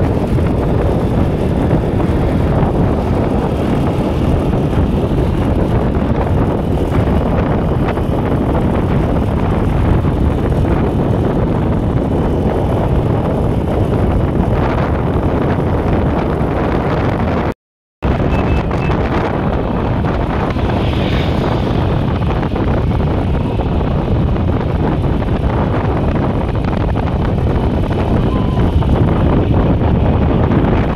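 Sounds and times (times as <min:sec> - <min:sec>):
motorcycle riding at speed: 0:00.0 - 0:30.9
wind rushing over microphone: 0:00.0 - 0:30.9.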